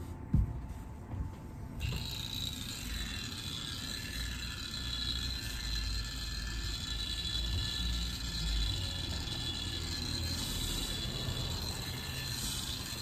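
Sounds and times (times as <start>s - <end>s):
steam iron rumble: 1.8s - 13.0s.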